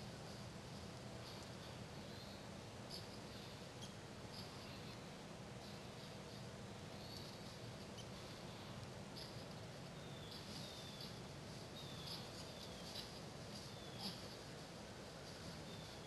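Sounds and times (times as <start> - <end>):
faint steady low hum: 0.0 - 16.0
small birds chirping: 0.3 - 16.0.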